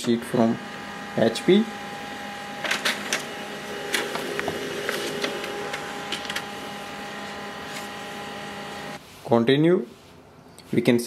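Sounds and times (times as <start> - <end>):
laser printer motor whir: 0.0 - 9.0.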